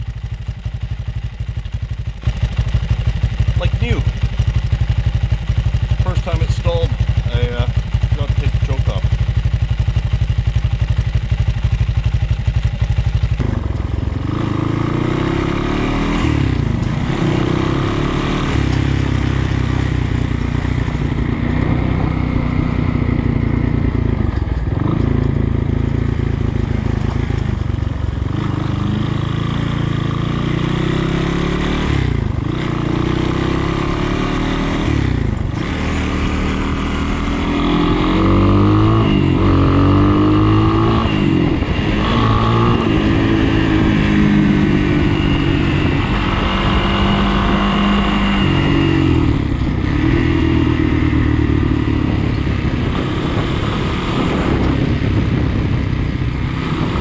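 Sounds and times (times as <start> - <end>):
dirt bike engine: 0.0 - 57.0.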